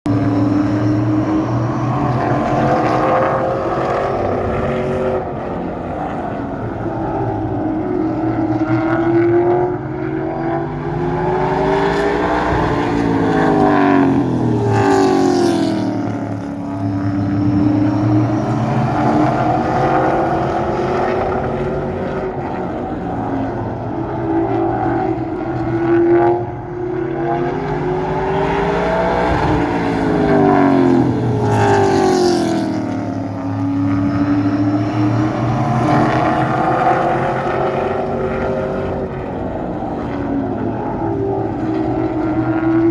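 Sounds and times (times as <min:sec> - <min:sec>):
vehicle engine passing by: 0:00.1 - 0:42.9.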